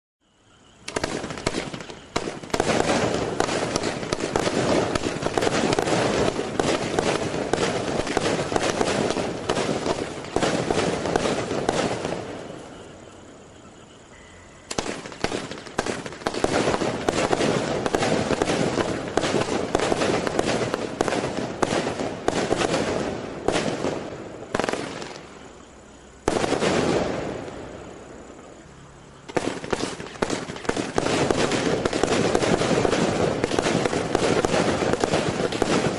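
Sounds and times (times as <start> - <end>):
fireworks crackling and popping: 0.6 - 13.5, 14.7 - 28.4, 29.2 - 35.9.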